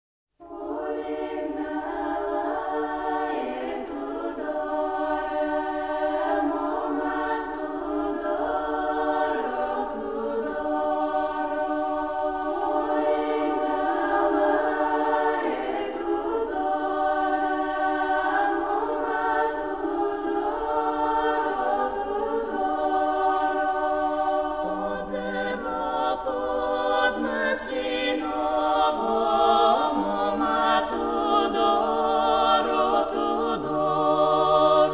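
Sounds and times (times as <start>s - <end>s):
choir singing sustained chords: 0.4s - 34.9s.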